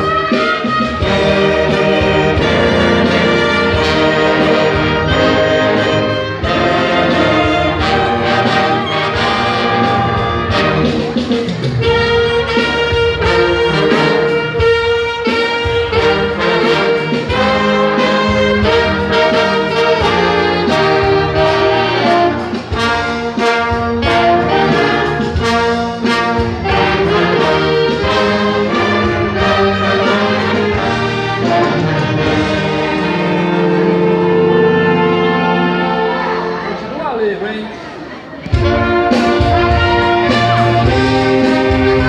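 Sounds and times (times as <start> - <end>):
percussive beat: 0.0 - 32.8, 38.4 - 42.0
brass section: 0.0 - 42.0
orchestra playing: 0.0 - 42.0.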